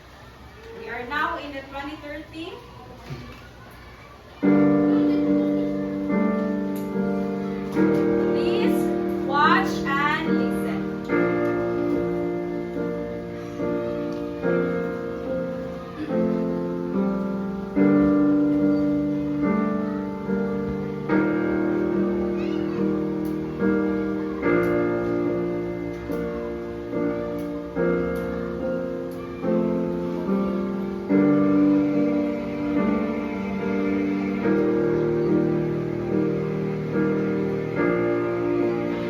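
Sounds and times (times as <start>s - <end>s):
slow piano chords: 0.0s - 39.0s.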